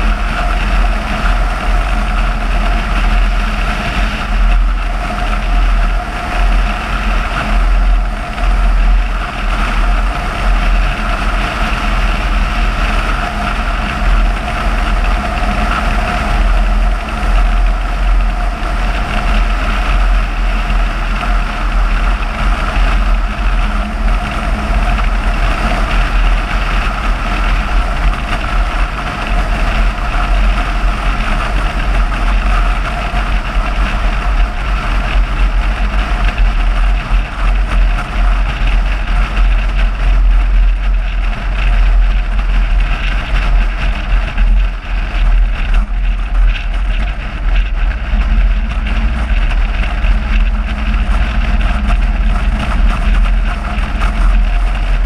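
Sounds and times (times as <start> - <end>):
car engine and road noise: 0.0 - 55.0
wind rumble on microphone: 0.0 - 55.0.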